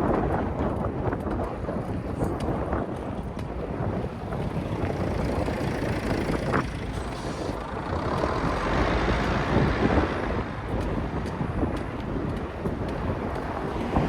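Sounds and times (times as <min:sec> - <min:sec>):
bicycle tyre rumble: 0:00.0 - 0:14.0
wind buffeting microphone: 0:00.0 - 0:14.0.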